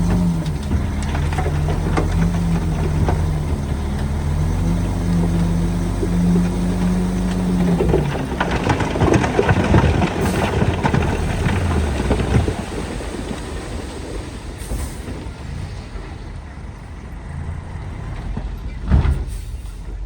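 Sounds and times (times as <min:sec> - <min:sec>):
diesel engine running: 0:00.0 - 0:20.0
machinery clanking and crunching: 0:00.0 - 0:20.0.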